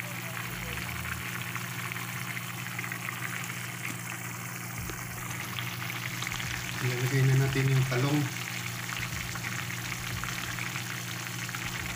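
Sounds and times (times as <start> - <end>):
steady low hum: 0.0 - 11.9
stew bubbling in a pan: 0.1 - 11.9.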